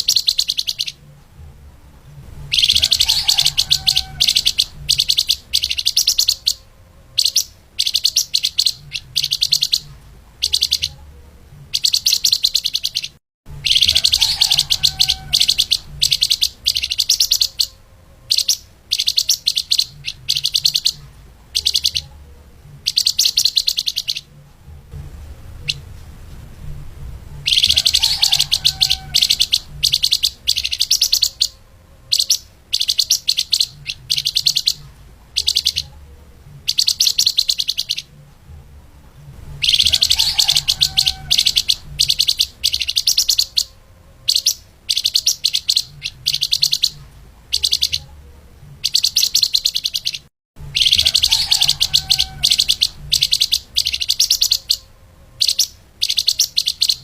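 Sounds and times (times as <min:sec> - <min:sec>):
songbird rapid chattering: 0:00.0 - 0:01.0, 0:02.5 - 0:11.0, 0:11.7 - 0:22.2, 0:22.8 - 0:24.3, 0:27.4 - 0:36.0, 0:36.6 - 0:38.1, 0:39.6 - 0:48.1, 0:48.8 - 0:57.0.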